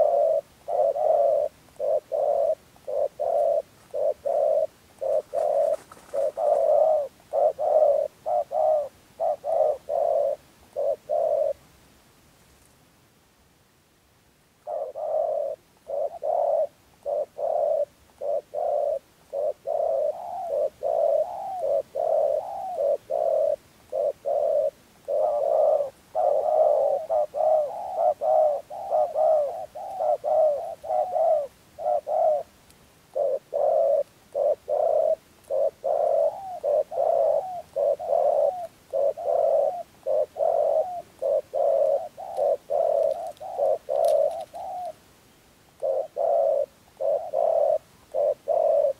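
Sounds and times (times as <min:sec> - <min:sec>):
dove cooing: 0:00.0 - 0:11.6, 0:14.6 - 0:45.0, 0:45.7 - 0:48.9.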